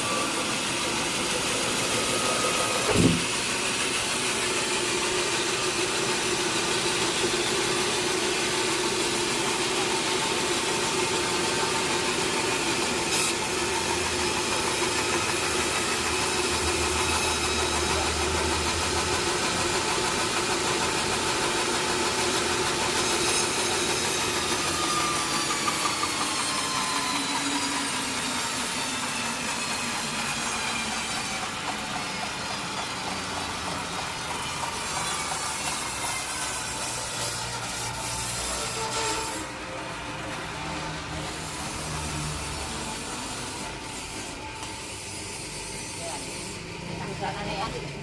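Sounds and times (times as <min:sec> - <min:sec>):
high steady machine tones: 0:00.0 - 0:48.0
sawmill machinery motor hum: 0:00.0 - 0:48.0.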